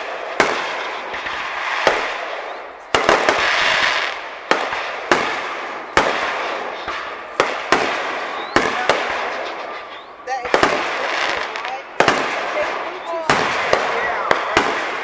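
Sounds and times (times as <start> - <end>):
fireworks bursting with crackling: 0.0 - 15.0.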